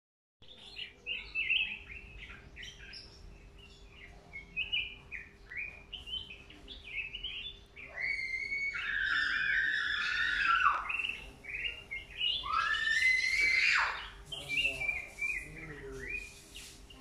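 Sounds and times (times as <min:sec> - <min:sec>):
songbird chirping and whistling: 0:00.4 - 0:17.0.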